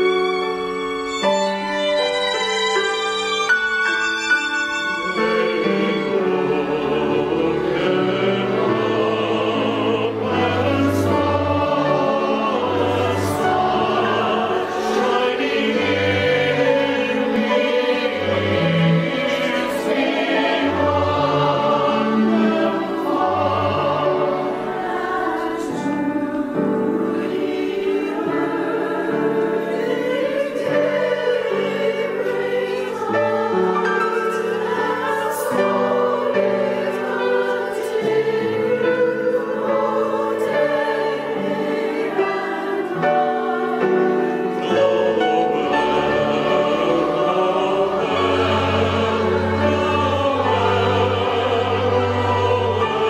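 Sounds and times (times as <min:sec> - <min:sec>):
church choir singing: 0:00.0 - 0:53.0.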